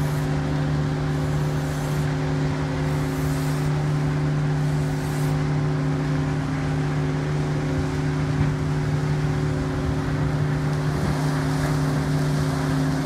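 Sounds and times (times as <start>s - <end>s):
mill machinery drone: 0.0s - 13.0s.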